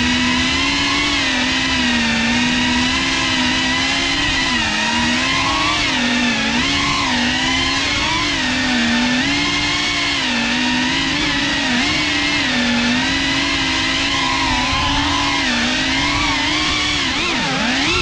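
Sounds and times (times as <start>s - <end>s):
drone buzzing whine: 0.0s - 18.0s.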